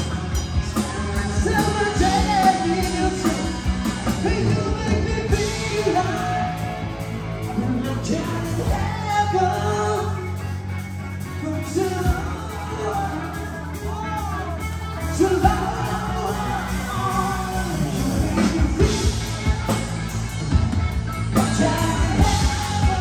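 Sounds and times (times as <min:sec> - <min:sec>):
lead singer's voice: 0:00.0 - 0:23.0
live rock band playing: 0:00.0 - 0:23.0.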